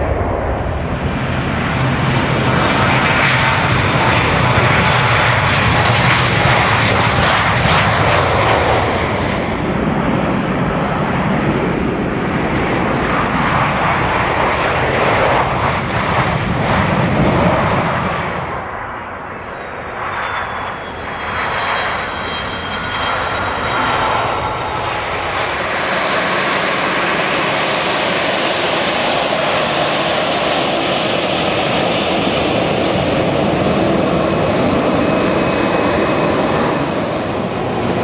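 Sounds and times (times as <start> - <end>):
jet engines roaring at takeoff: 0.0 - 38.0.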